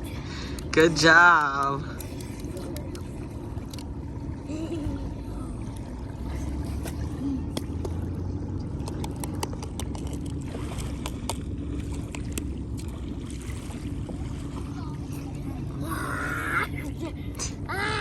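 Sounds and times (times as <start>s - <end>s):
low rumble: 0.0s - 18.0s
water lapping at beach: 0.0s - 18.0s.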